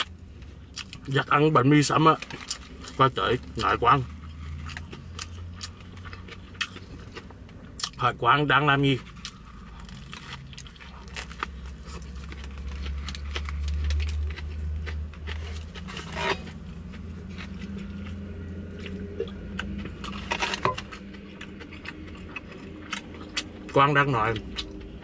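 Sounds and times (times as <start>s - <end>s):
crunchy bread being chewed: 0.0s - 25.0s
low steady rumble: 0.0s - 25.0s.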